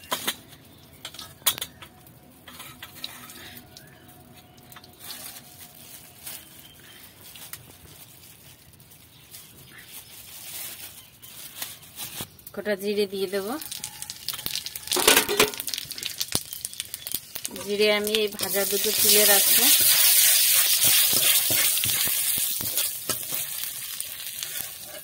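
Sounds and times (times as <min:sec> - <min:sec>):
oil crackling in a pan: 0:00.8 - 0:25.0.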